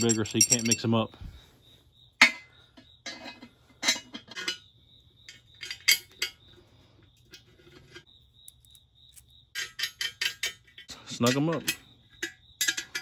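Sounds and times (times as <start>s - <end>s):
bolts and washers clinking on metal: 0.0s - 1.1s, 2.2s - 4.7s, 5.3s - 6.4s, 7.2s - 13.0s.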